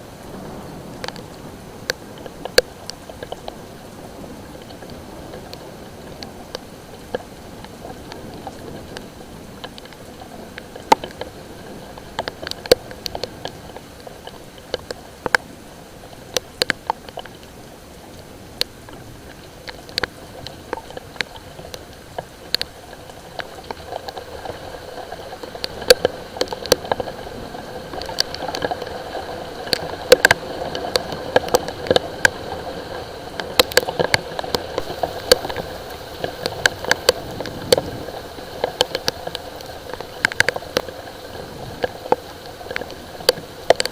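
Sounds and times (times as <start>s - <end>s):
light rain: 0.0s - 43.9s
raindrops tapping on hard surface: 0.0s - 43.9s.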